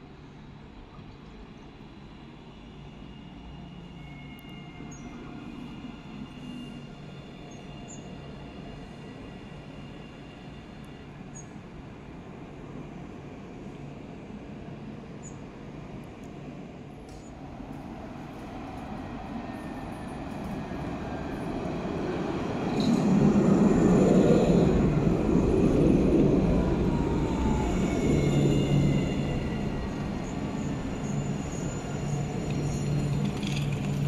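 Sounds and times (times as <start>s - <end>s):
tram passing on rails: 0.0s - 34.0s.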